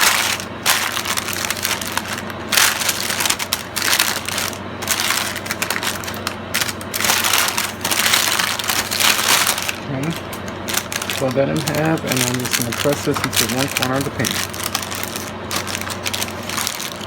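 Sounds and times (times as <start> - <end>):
parchment paper crinkling: 0.0 - 17.0
rice cereal crackling: 0.0 - 17.0.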